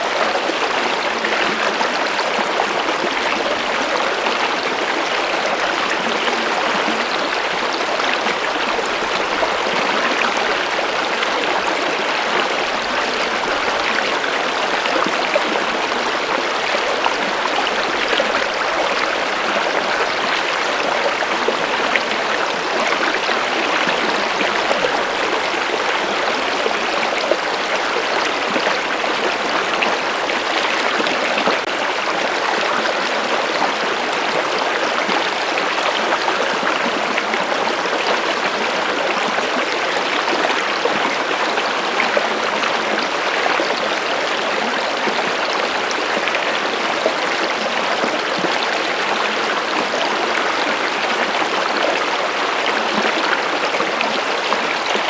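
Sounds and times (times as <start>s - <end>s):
stream water rushing and babbling: 0.0s - 55.0s.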